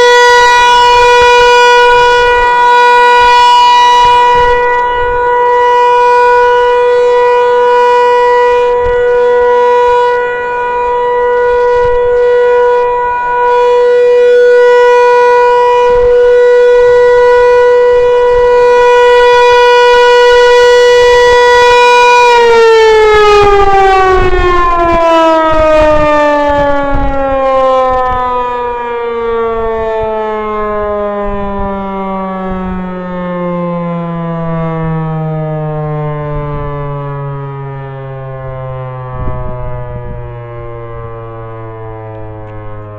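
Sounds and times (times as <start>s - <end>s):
outdoor warning siren: 0.0s - 42.9s.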